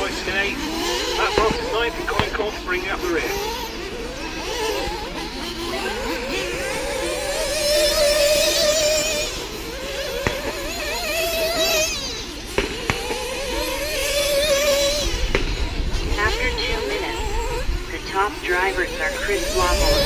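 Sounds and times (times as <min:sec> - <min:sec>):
rc car motors whining: 0:00.0 - 0:20.0.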